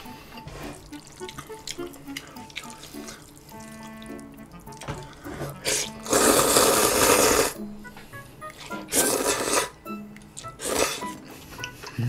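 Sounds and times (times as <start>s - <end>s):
noodles being stirred: 0.0s - 7.6s, 8.5s - 12.0s
soft background music: 0.0s - 12.0s
chewing: 0.3s - 7.6s, 8.4s - 12.0s.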